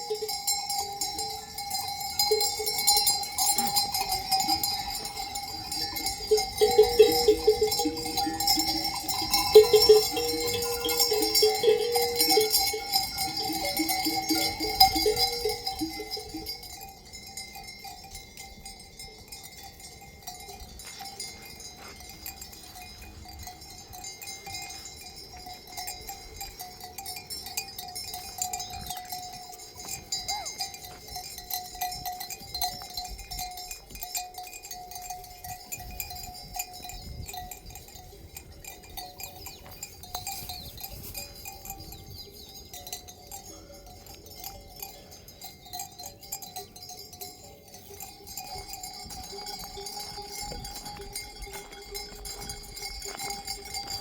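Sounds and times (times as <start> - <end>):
livestock bells clanking: 0.0 - 54.0.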